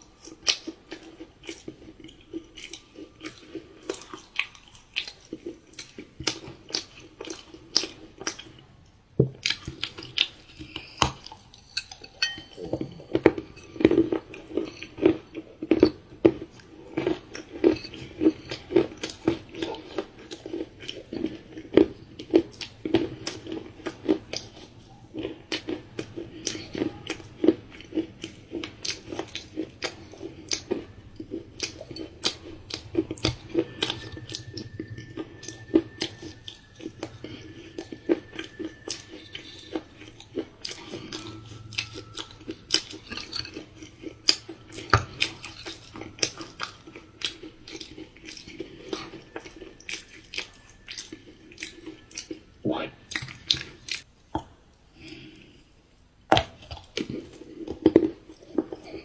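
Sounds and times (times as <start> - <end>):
wet sticky chewing: 0.0 - 55.6.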